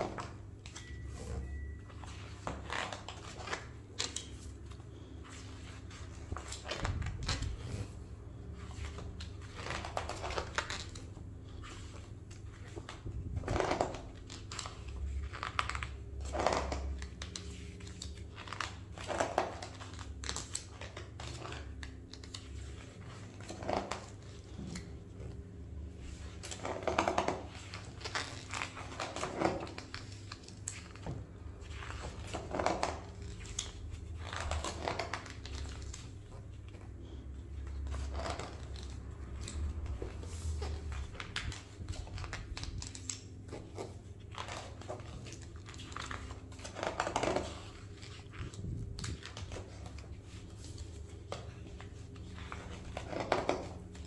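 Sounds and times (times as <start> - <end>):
book pages turning: 0.0 - 54.0.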